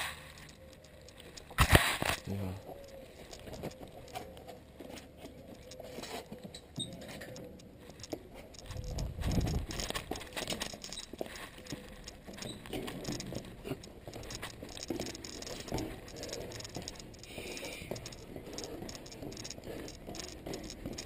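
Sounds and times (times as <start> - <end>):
hands and shoes tapping metal rungs: 0.0 - 21.0.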